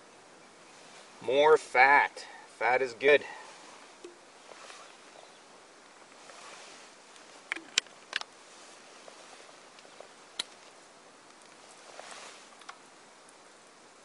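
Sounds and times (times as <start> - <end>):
faint rustling: 0.5 - 1.6, 2.2 - 13.5.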